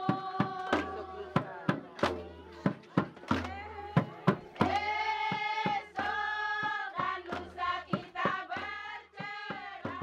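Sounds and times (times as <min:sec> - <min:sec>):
sharp percussive beats: 0:00.0 - 0:10.0
women singing chant-like phrases: 0:00.0 - 0:10.0.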